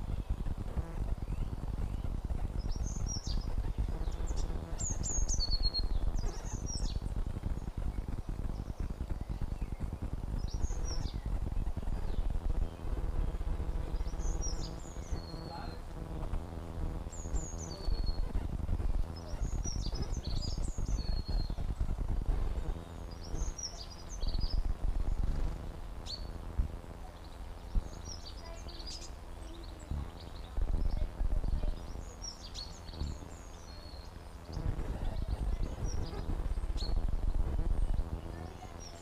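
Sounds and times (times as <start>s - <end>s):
birds chirping: 0.0s - 39.0s
low rumbling crackle: 0.0s - 39.0s.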